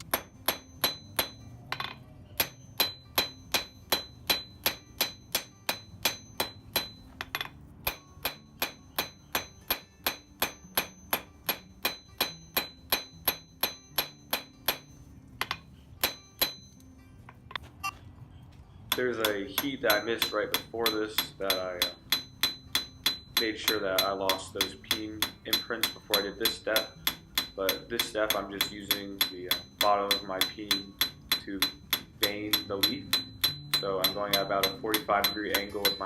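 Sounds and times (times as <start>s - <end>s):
hammer striking steel on anvil: 0.0s - 17.6s, 18.9s - 36.0s.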